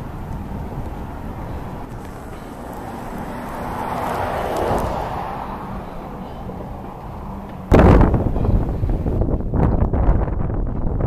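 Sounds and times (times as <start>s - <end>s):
distant city sound: 0.0s - 11.0s
wind: 0.0s - 11.0s.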